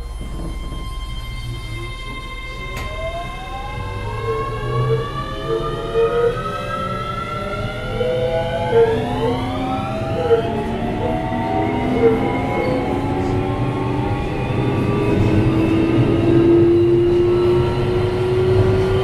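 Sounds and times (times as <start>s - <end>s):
wheels rumbling on rails: 0.0s - 19.0s.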